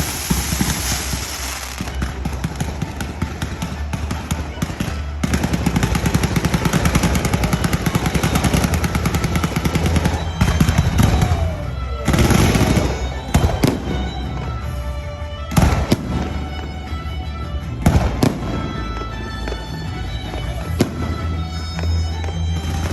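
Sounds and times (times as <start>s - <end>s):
fireworks bangs: 0.0s - 14.5s, 17.8s - 22.9s
music: 0.0s - 22.9s.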